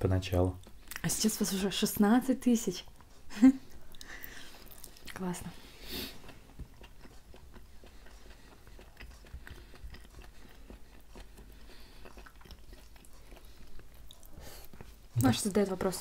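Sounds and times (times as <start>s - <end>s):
wet chewing clicks and smacks: 0.4s - 1.6s, 2.8s - 5.5s, 6.1s - 15.4s.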